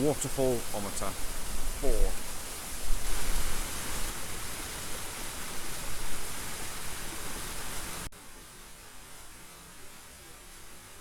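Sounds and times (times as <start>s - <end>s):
faint hiss: 0.0s - 11.0s
small waterfall rushing: 0.0s - 11.0s.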